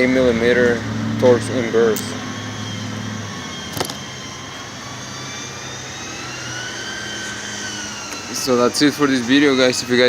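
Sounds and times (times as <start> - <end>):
faint high whine: 0.0 - 10.0
machine hum: 0.0 - 10.0.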